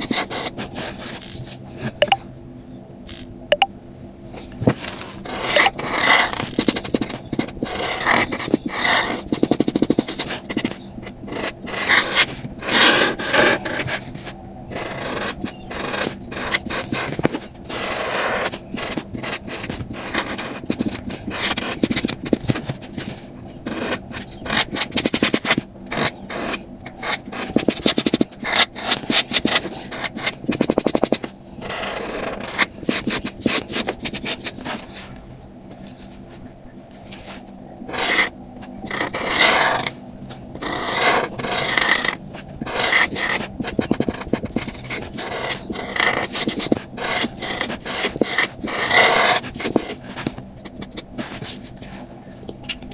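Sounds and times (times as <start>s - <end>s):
marker scratching on paper: 0.0s - 2.2s, 4.7s - 35.0s, 37.0s - 40.0s, 40.6s - 52.0s.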